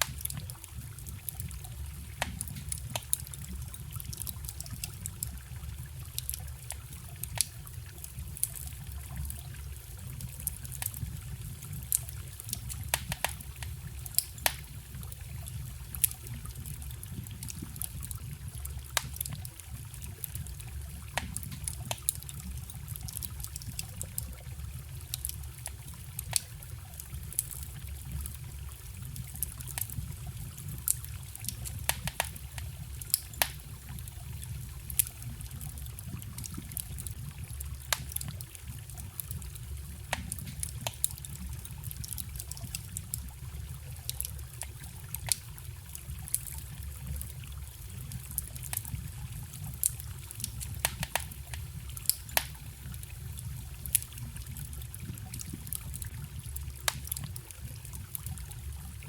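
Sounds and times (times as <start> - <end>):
campfire crackling and popping: 0.0 - 59.0
stream trickling: 0.0 - 59.0.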